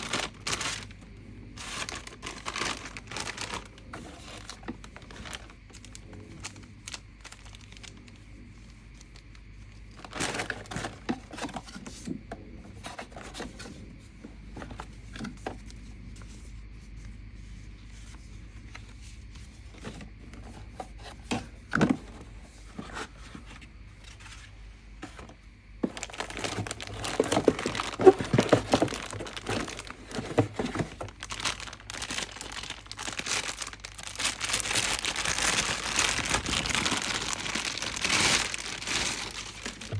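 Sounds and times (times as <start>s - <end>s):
packaging crinkling and rustling: 0.0s - 12.1s, 17.7s - 39.9s.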